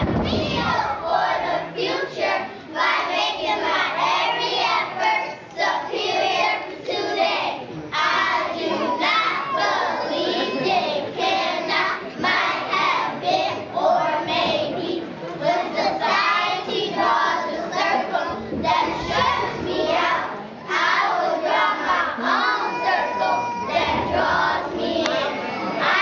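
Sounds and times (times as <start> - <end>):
children reciting in unison: 0.0 - 26.0.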